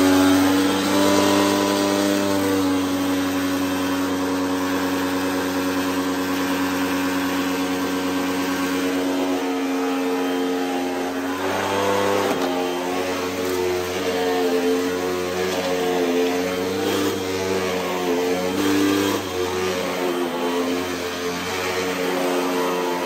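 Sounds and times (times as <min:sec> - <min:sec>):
vacuum cleaner on carpet: 0:00.0 - 0:23.0.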